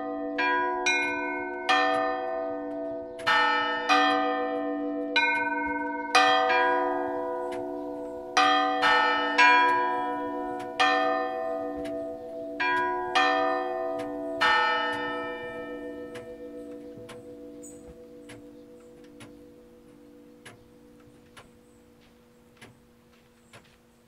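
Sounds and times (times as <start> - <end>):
bells struck ringing: 0.0 - 23.2.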